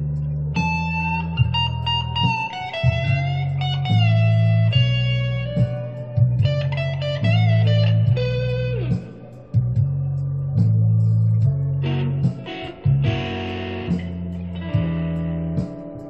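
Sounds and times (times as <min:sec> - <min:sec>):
electric guitar blues solo: 0:00.0 - 0:09.6, 0:11.7 - 0:16.0
low accompaniment: 0:00.0 - 0:16.0.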